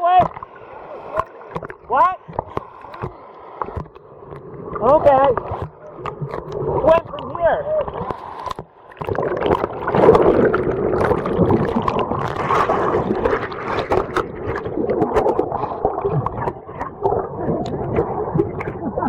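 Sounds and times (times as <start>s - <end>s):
river water gurgling and splashing: 0.0s - 19.0s.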